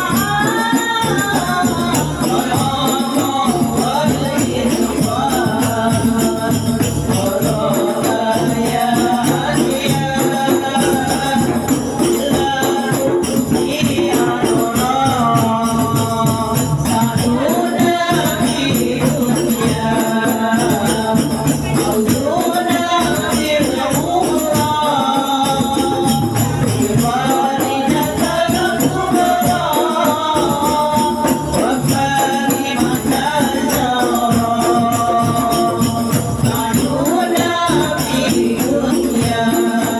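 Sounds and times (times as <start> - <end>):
continuous percussion: 0.0 - 39.9
voices chanting devotional song: 0.0 - 39.9.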